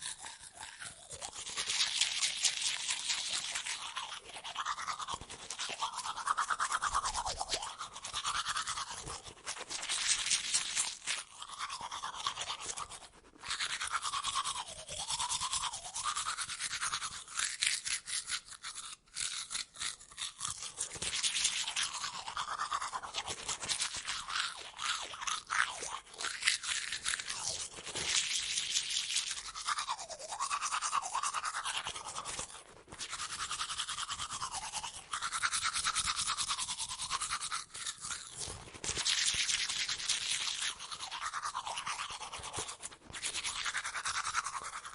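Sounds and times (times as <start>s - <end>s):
toothbrush scrubbing teeth: 0.0s - 44.9s.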